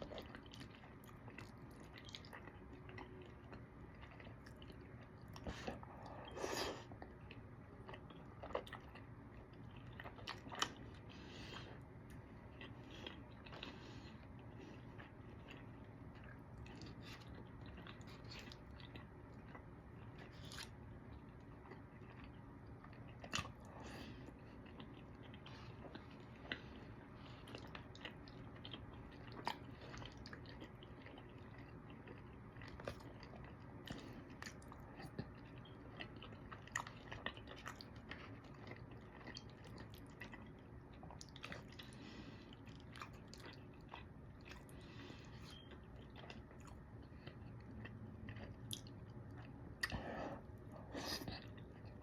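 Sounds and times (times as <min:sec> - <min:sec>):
person chewing food: 0:00.0 - 0:52.0
food crunching: 0:06.9 - 0:52.0.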